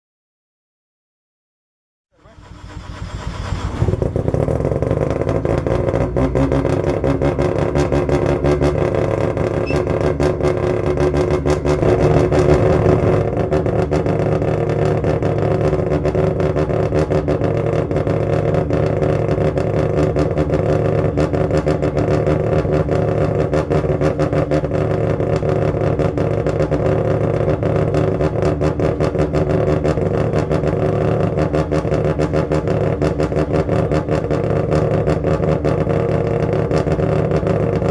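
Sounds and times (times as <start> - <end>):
rotary engine buzzing idle: 2.2 - 37.9.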